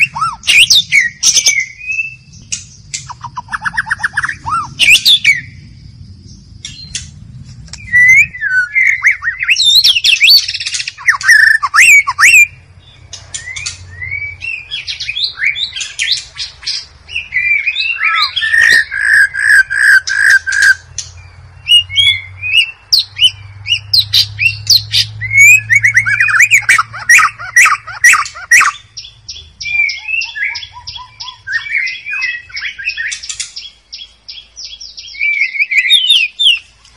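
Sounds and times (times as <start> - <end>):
songbird singing whistled phrases: 0.0 - 5.6, 7.8 - 36.7.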